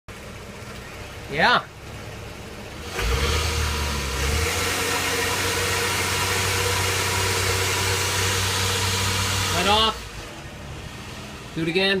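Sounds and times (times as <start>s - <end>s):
car engine running under load: 0.1s - 12.0s.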